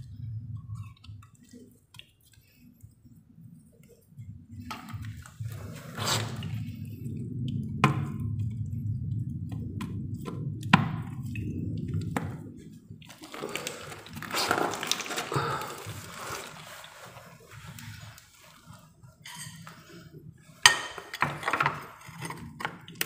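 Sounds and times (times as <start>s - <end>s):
low steady rumble: 0.0s - 20.7s
water dripping: 0.0s - 21.2s
water splashing and rustling: 0.0s - 23.0s.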